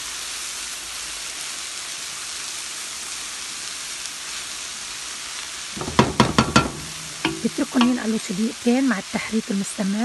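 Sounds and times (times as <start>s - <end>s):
leaves frying sizzle: 0.0s - 10.0s.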